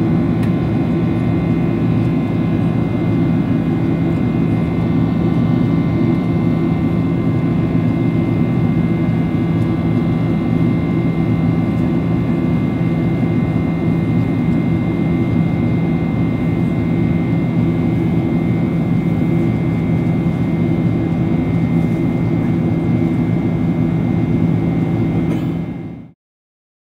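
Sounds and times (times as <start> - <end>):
aircraft cabin engine drone: 0.0 - 26.2.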